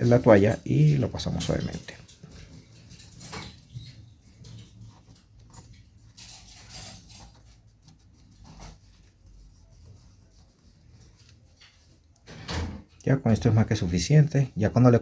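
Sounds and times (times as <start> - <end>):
cloth rubbing and scratching: 0.0 - 12.1.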